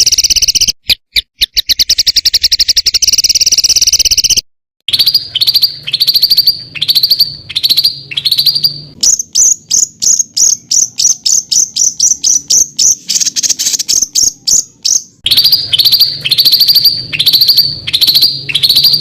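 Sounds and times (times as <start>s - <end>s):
songbird calling in harsh bursts: 0.0s - 19.0s.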